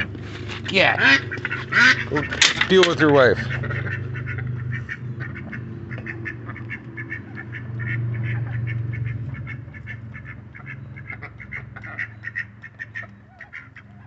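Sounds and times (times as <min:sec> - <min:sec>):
low steady hum: 0:00.0 - 0:14.0
duck quacking rapidly: 0:00.8 - 0:02.4, 0:03.2 - 0:13.9.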